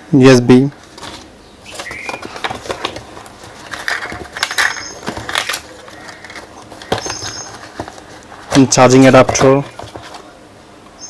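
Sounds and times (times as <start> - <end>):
packaging crinkling and rustling: 0.7 - 10.4
light clicks and knocks: 0.8 - 10.3.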